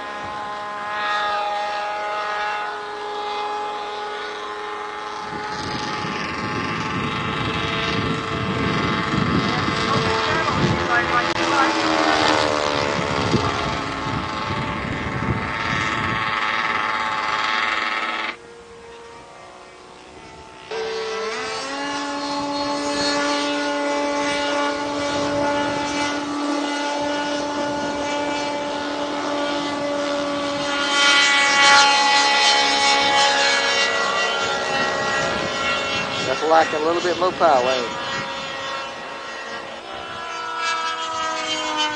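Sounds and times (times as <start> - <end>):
model airplane engine: 0.0 - 41.9.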